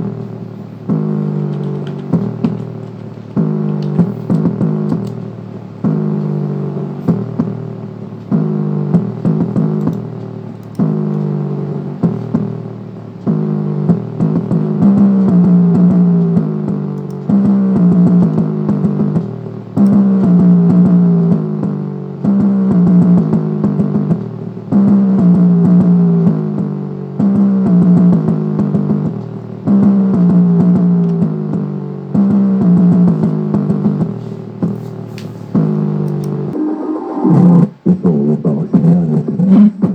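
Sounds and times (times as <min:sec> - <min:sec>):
bass-heavy music from subwoofer: 0:00.0 - 0:39.9.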